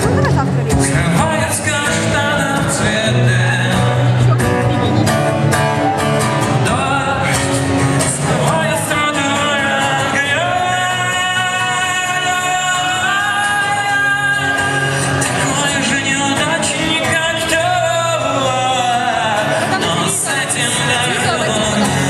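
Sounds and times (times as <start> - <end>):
person singing: 0.0 - 5.1, 5.8 - 22.0
pop-rock band music: 0.0 - 22.0.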